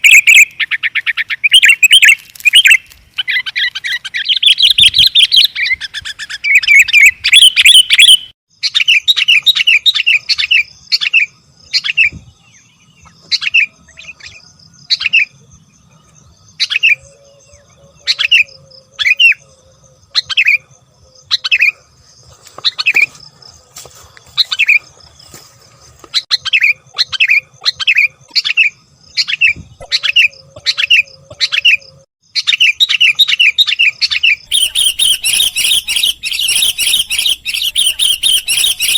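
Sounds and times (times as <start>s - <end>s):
birds chattering calls: 0.0s - 38.9s.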